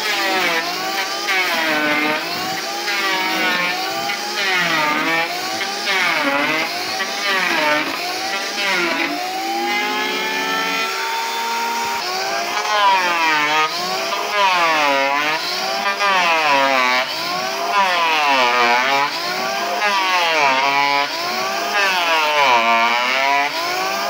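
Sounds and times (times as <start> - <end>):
electric planer shaving wood: 0.0 - 24.0.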